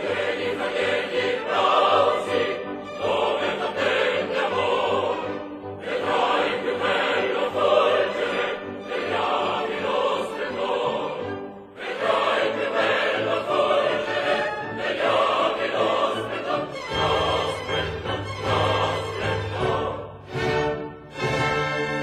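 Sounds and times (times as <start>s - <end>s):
opera chorus singing: 0.0s - 22.0s
orchestra playing: 0.0s - 22.0s.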